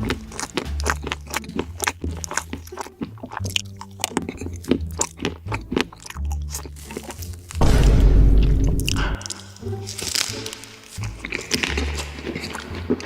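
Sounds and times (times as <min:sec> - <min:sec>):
person chewing crunchy food: 0:00.0 - 0:07.6, 0:08.4 - 0:13.0.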